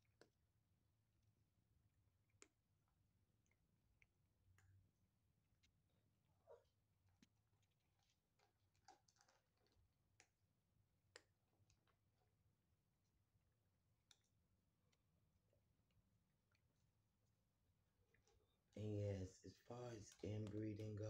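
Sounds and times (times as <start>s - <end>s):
kittens chewing dry kibble: 2.1s - 21.0s.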